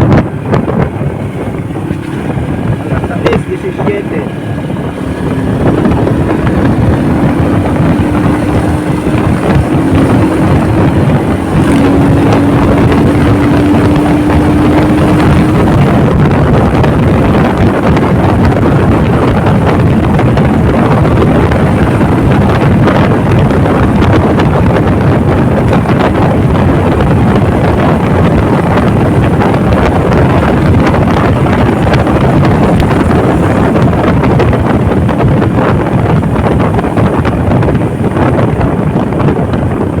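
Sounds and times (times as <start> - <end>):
heavy wind buffeting microphone: 0.0 - 40.0
motorcycle engine: 0.0 - 40.0.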